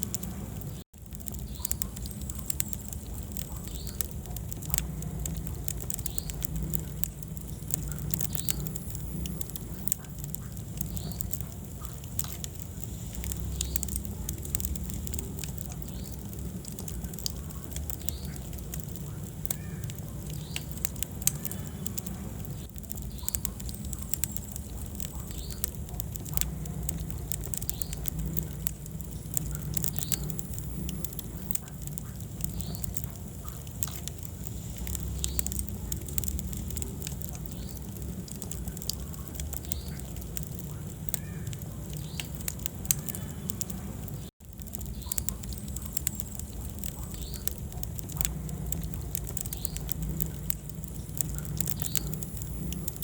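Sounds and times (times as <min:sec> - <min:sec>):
low rumble of flame: 0:00.0 - 0:53.0
wood fire crackling and popping: 0:00.0 - 0:53.0.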